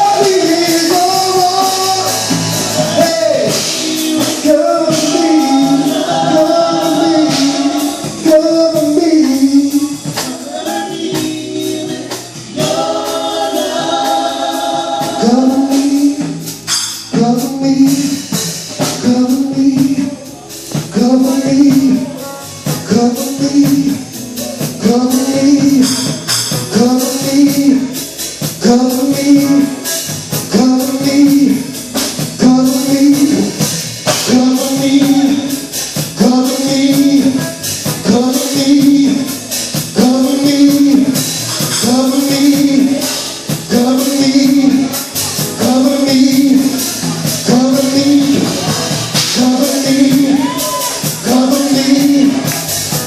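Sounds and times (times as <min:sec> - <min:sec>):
band accompaniment: 0:00.0 - 0:53.0
gospel singers: 0:00.0 - 0:53.0.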